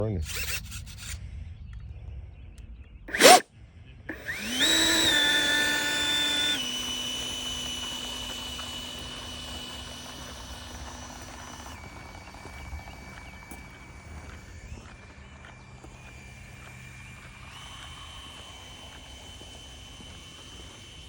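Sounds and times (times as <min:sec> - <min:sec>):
electric ducted fan whine: 0:03.1 - 0:21.0.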